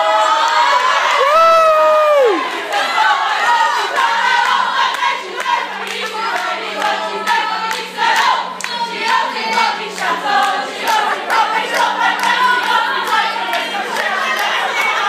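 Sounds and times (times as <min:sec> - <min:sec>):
women singing a chant: 0:00.0 - 0:01.2, 0:02.2 - 0:15.0.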